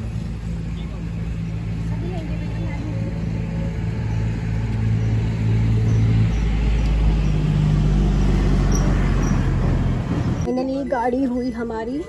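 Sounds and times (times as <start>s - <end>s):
car engine running: 0.0s - 10.5s.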